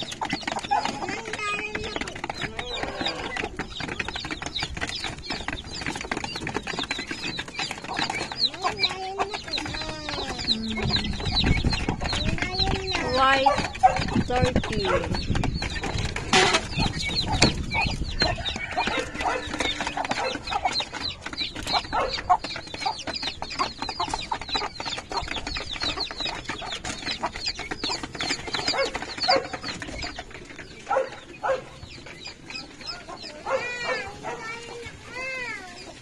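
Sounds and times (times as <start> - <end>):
chicks peeping: 0.0 - 36.0.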